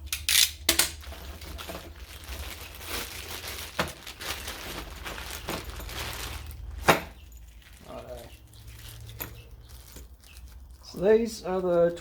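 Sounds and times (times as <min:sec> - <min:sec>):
packaging crinkling: 0:00.3 - 0:12.0.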